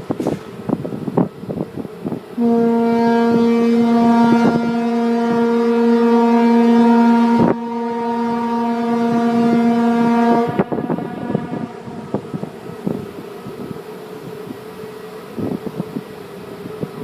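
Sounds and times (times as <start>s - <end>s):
wind buffeting microphone: 0.0s - 17.0s
ship horn blast: 2.3s - 16.5s.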